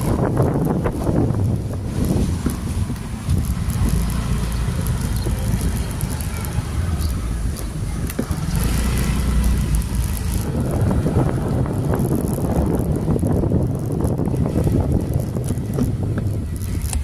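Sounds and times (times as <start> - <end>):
low rumble of vehicle: 0.0 - 17.0
wind buffeting microphone: 0.0 - 17.0.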